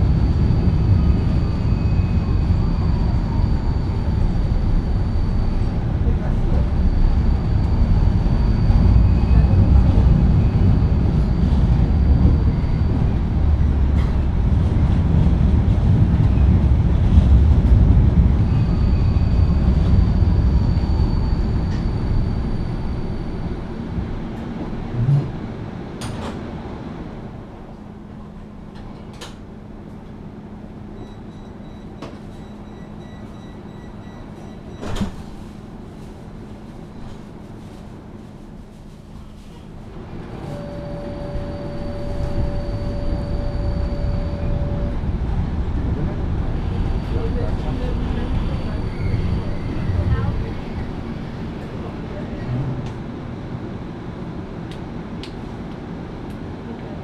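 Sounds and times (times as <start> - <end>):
low hum of standing tram: 0.0 - 57.0
tram running rumble: 0.0 - 57.0.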